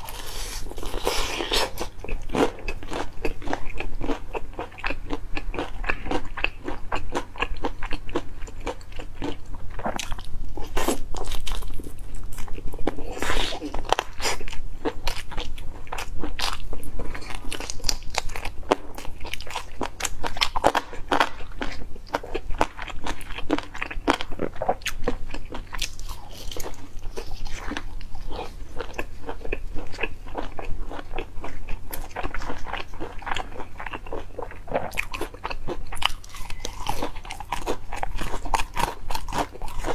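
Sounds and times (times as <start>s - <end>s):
crunching fried chicken: 0.0s - 39.9s
faint low hum: 0.0s - 39.9s
wet chewing: 0.0s - 39.9s.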